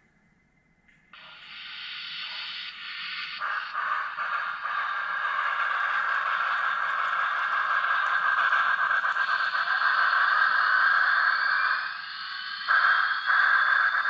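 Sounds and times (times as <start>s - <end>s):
model steam locomotive hissing: 1.2s - 14.0s.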